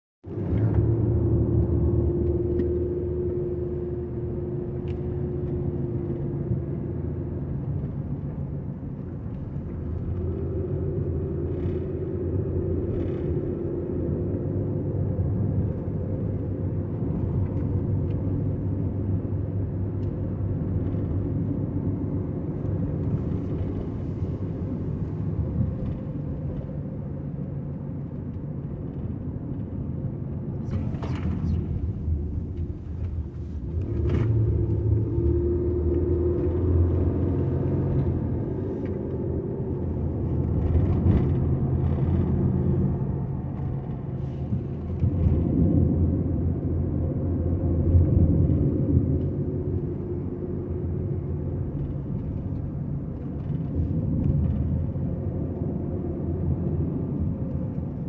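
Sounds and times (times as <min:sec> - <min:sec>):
tyre and engine rumble: 0:00.2 - 0:58.0.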